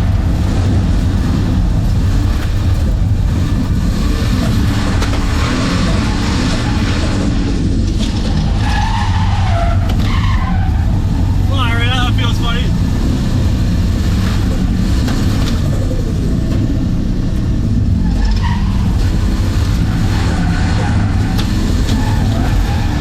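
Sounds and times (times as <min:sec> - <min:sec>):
car engine running hard: 0:00.0 - 0:23.0
tyres skidding: 0:00.0 - 0:23.0.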